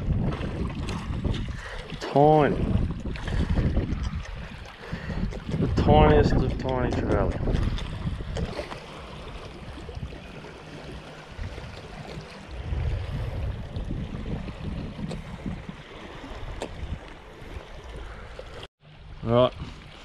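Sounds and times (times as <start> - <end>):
wind buffeting microphone: 0.0 - 18.3
waves lapping on rocky shore: 0.0 - 18.7.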